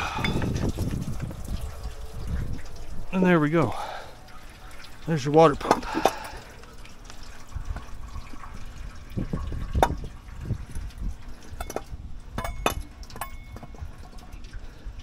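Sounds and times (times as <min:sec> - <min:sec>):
coolant dripping into pan: 0:00.0 - 0:15.0.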